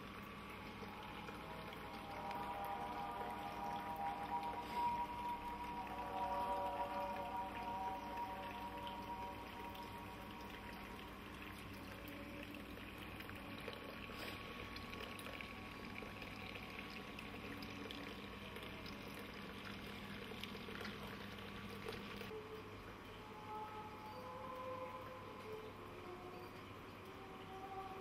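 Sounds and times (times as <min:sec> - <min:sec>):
trickle of running water: 0:00.0 - 0:28.0.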